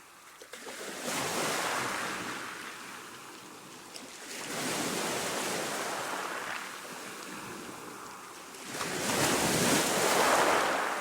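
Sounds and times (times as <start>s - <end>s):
ocean waves breaking on shore: 0.0s - 11.0s.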